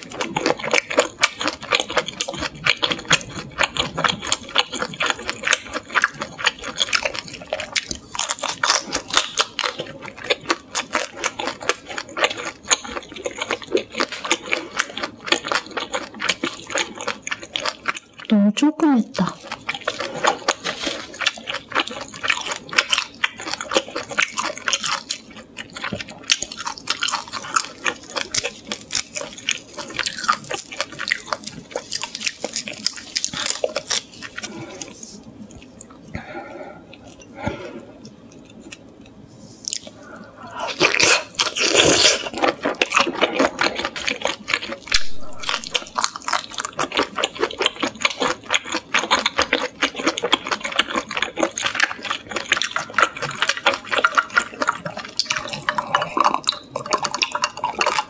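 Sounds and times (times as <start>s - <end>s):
mouth chewing crunchy food: 0.0s - 58.0s.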